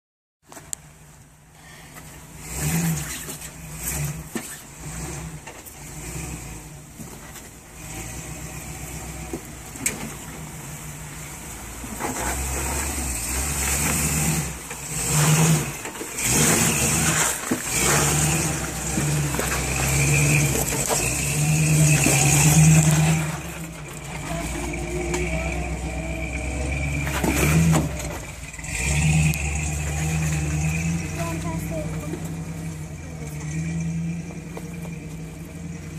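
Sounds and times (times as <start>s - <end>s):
engine revving in bursts: 2.4s - 6.8s, 7.8s - 9.4s, 11.3s - 35.9s.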